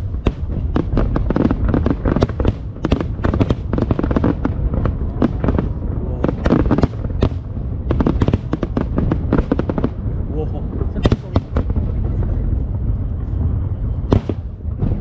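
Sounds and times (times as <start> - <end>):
fireworks crackling bangs: 0.0 - 15.0
low booming rumble: 0.0 - 15.0.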